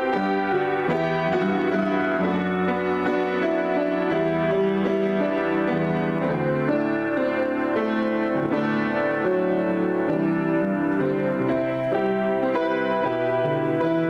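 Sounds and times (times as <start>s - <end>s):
solo piano improvisation: 0.0s - 14.0s.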